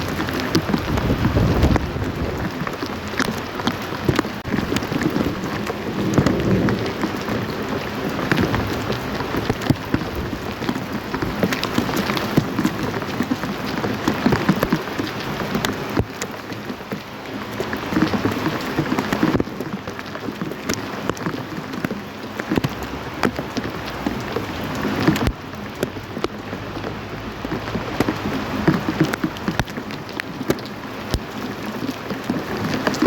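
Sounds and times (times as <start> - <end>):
rain on a hard surface: 0.0 - 33.0.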